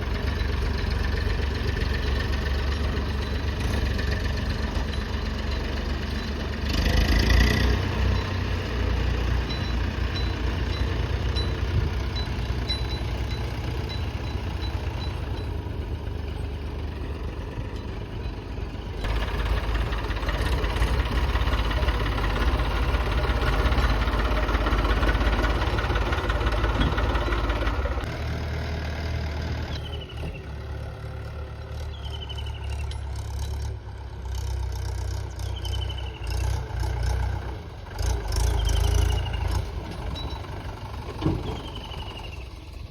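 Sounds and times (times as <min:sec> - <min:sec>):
diesel engines revving: 0:00.0 - 0:42.9.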